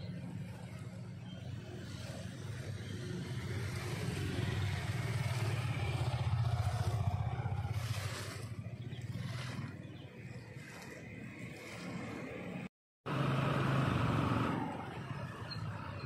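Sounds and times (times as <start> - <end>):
engine passing by: 0.0 - 16.0.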